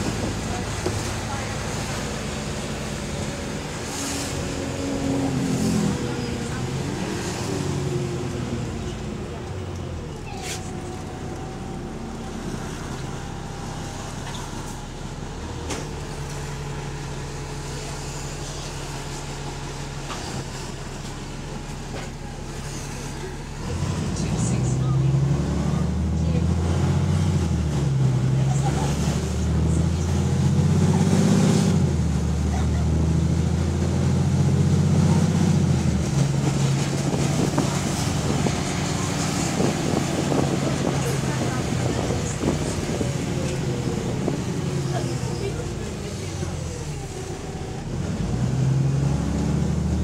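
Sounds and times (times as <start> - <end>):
bus diesel engine humming: 0.0 - 50.0
road noise: 0.0 - 50.0.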